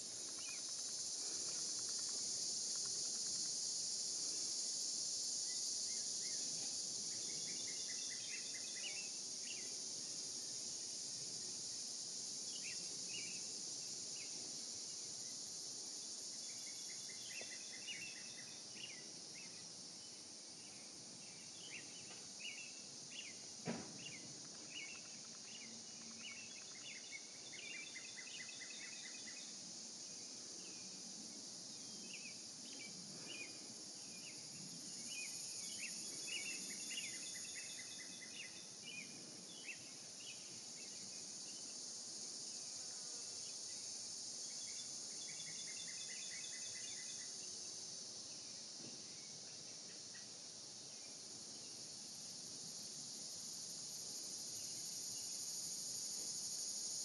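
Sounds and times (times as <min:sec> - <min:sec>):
insect chirps: 0:00.0 - 0:57.0
insect chorus drone: 0:00.0 - 0:57.0.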